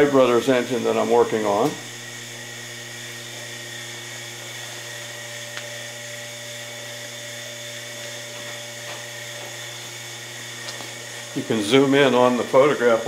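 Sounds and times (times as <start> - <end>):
electric motor hum with whine: 0.0 - 13.0.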